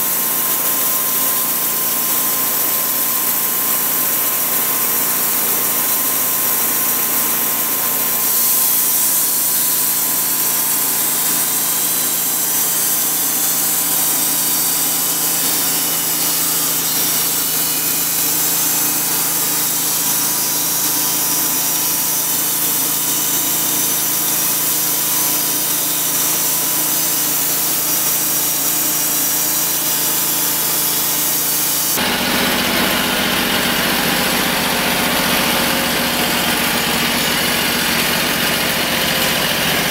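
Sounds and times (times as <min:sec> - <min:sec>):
bandsaw cutting log: 0:00.0 - 0:39.9.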